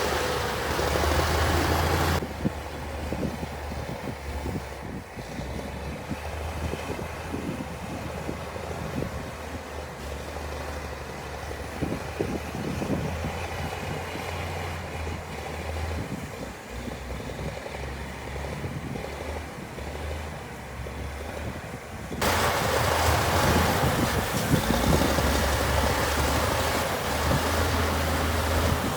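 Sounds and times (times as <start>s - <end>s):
diesel machinery engine drone: 0.0s - 28.9s.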